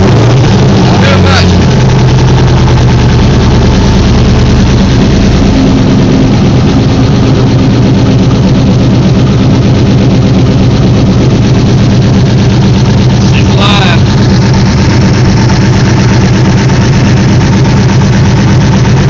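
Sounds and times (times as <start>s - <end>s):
engine running with fast pulsing: 0.0s - 19.0s.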